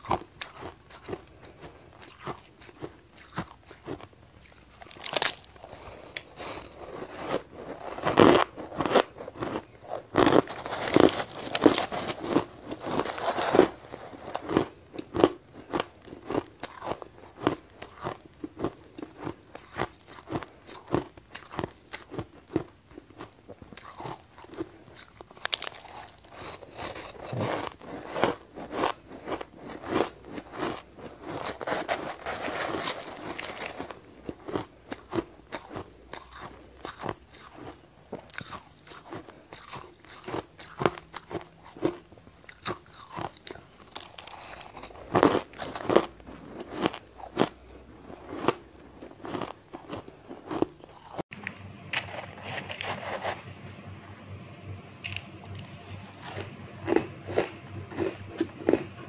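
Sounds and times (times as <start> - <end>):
chewing ice: 0.0 - 51.2, 55.0 - 58.9.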